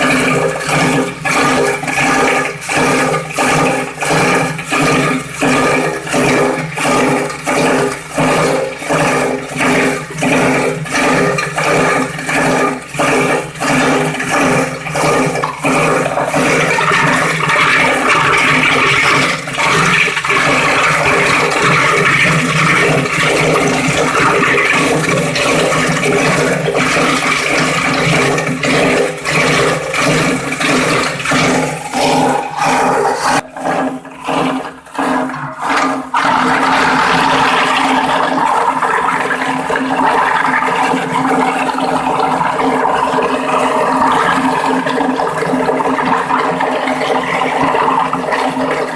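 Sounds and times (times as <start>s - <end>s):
plastic grinder running: 0.0s - 48.9s.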